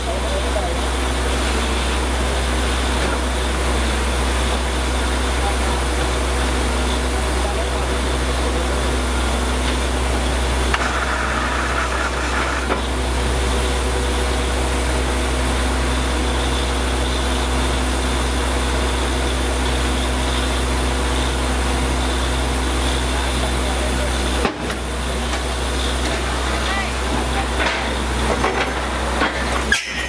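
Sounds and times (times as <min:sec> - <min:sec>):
drilling rig engine hum: 0:00.0 - 0:30.0.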